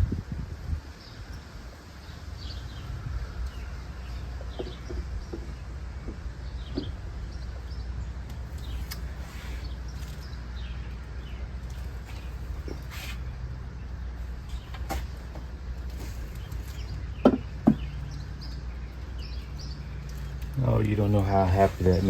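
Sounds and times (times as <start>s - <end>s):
birds chirping: 0.8s - 22.0s.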